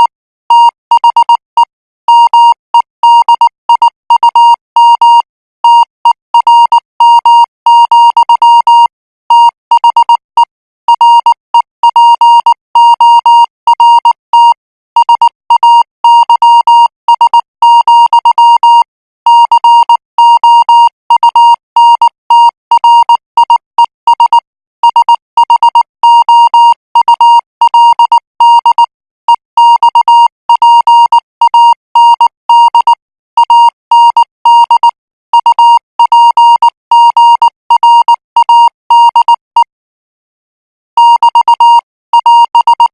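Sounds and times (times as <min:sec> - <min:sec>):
morse code beeps: 0:00.0 - 0:39.7, 0:41.0 - 0:42.9.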